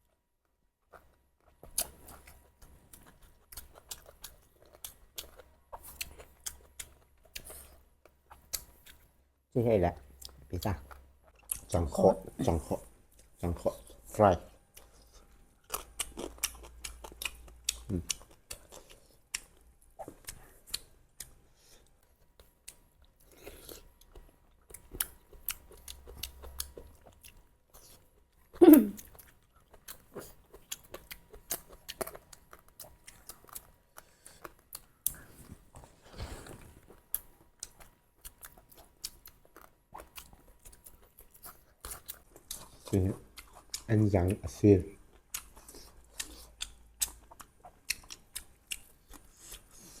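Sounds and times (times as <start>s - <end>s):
wet chewing and biting: 0.8s - 9.1s, 14.7s - 21.4s, 22.0s - 44.4s, 45.1s - 50.0s.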